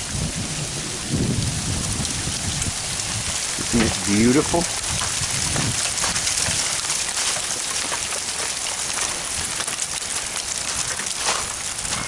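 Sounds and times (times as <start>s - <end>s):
rain pattering on icy woods: 0.0s - 12.0s.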